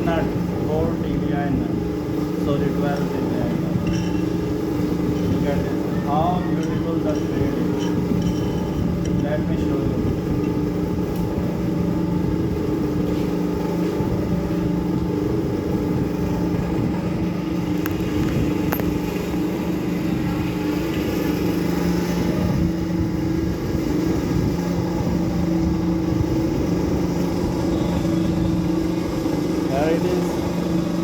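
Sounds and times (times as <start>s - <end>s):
lathe motor humming: 0.0s - 31.0s.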